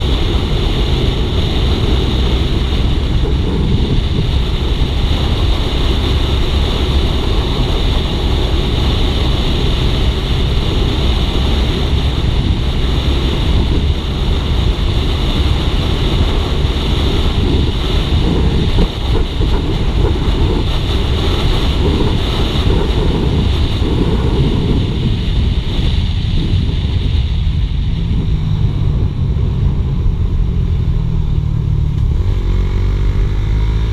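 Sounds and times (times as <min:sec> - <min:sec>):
motorcycle engine running: 0:00.0 - 0:33.9
wind rushing over microphone: 0:00.0 - 0:33.9.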